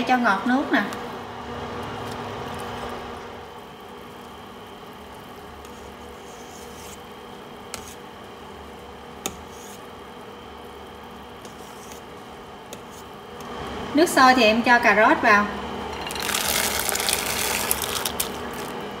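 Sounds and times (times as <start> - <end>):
stove flame hissing: 0.2 - 14.6, 15.6 - 19.0.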